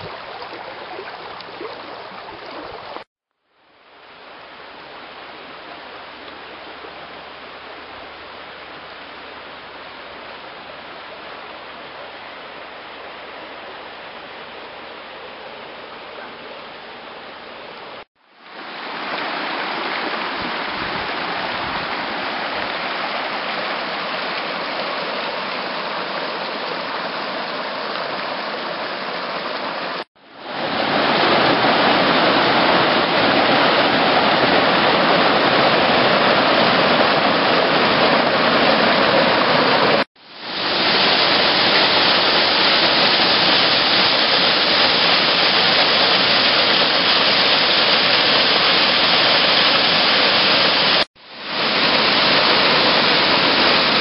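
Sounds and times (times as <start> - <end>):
rushing water of a stream: 0.0 - 54.0.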